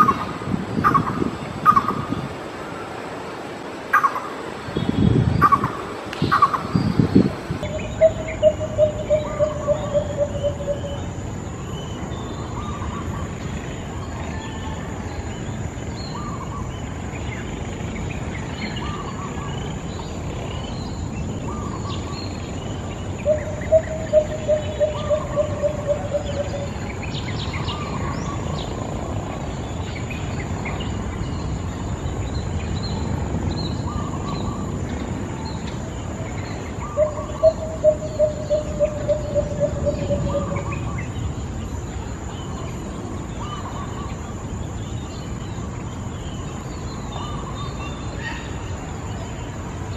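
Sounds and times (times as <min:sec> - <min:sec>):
small birds chirping: 0:03.9 - 0:49.9
insect droning on a high note: 0:07.6 - 0:17.7, 0:18.6 - 0:49.9.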